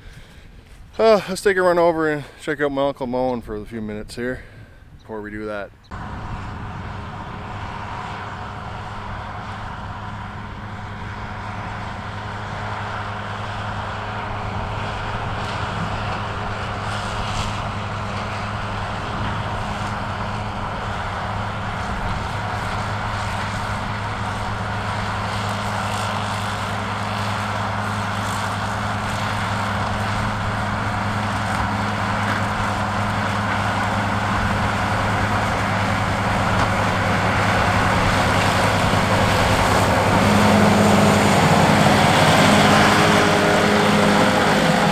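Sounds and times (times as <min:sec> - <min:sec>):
vehicle engine humming: 0:05.9 - 0:44.9.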